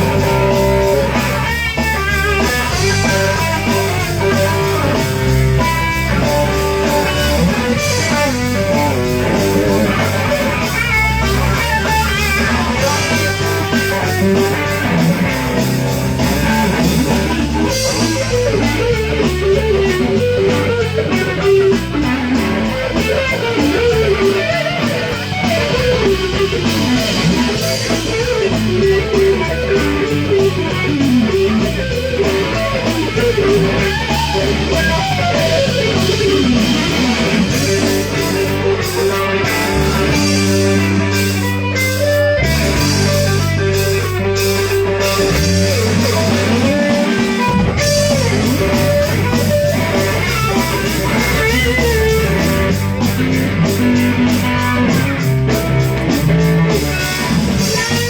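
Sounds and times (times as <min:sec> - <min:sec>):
bass guitar: 0:00.0 - 0:58.0
drums: 0:00.0 - 0:58.0
electric guitar lead lines: 0:00.0 - 0:58.0.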